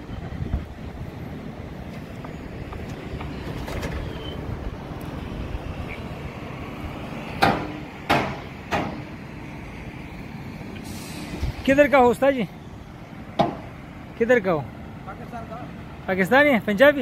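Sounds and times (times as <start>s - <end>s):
concrete pump engine rumble: 0.0s - 17.0s.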